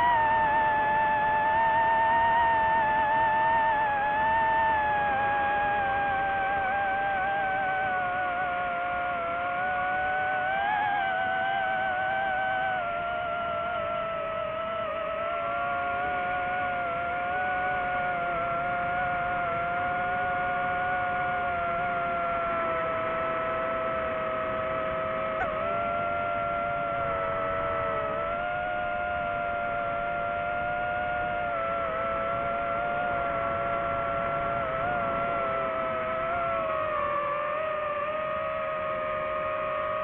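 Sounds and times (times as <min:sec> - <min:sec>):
drone propellers whining: 0:00.0 - 0:40.0.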